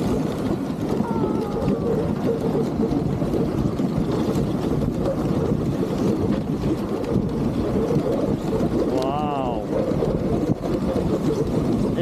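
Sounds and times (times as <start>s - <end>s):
sled runners scraping snow: 0.0s - 12.0s
wind on microphone: 0.0s - 12.0s.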